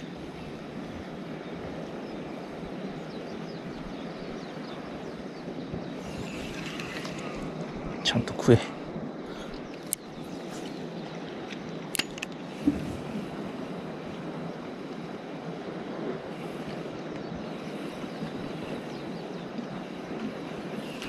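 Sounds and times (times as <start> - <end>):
harbour water: 0.0 - 21.0
wind: 0.0 - 21.0.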